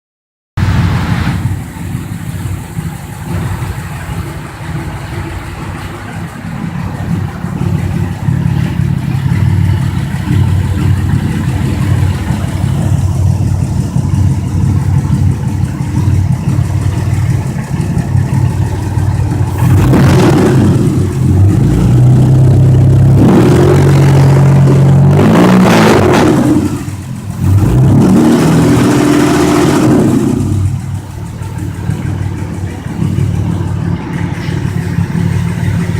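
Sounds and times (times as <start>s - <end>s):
car engine idling and revving: 0.6s - 35.9s.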